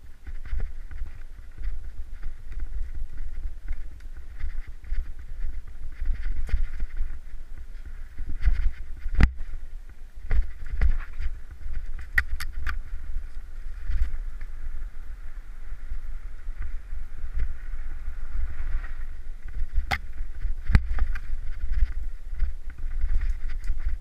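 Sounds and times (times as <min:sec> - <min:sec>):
mountain bike rattling: 0:00.0 - 0:24.0
wind rumble on microphone: 0:00.0 - 0:24.0.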